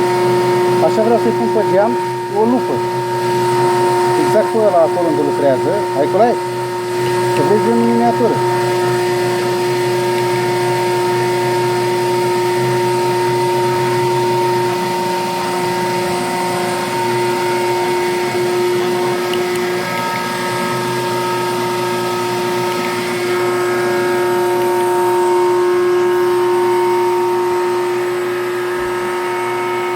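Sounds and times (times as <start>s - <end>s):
lathe machine whine: 0.0s - 29.9s.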